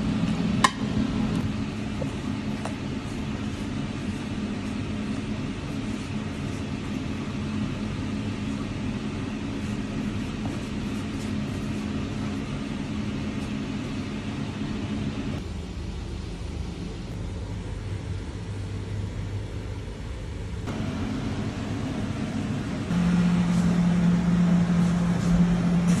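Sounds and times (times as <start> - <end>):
low mechanical rumble and hum: 0.0 - 26.0.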